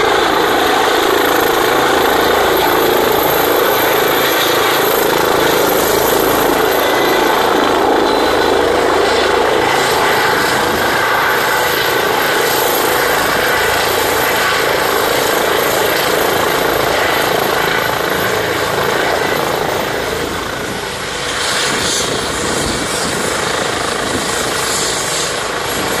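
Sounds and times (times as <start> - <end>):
helicopter rotor and turbine noise: 0.0 - 26.0.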